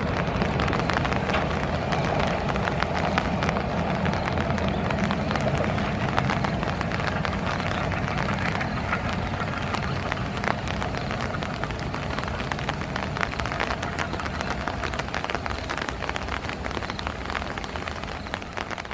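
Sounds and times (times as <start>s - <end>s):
passenger train rolling past: 0.0s - 18.9s.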